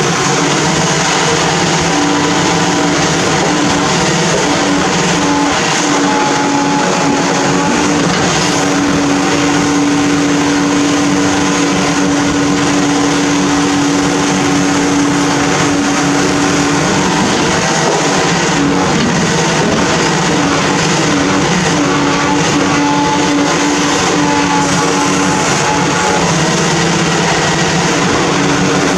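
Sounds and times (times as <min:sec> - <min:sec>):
diesel engine running hard: 0:00.0 - 0:28.9
hydraulic pump whine: 0:00.0 - 0:28.9.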